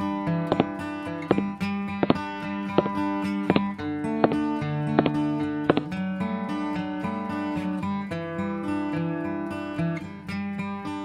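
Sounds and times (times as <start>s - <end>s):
plucked guitar melody: 0.0s - 11.0s.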